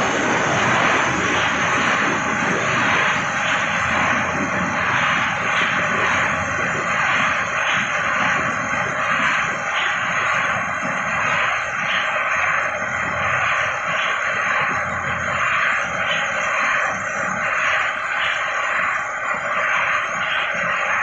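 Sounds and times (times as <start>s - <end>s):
spinning ride whooshing: 0.0s - 21.0s.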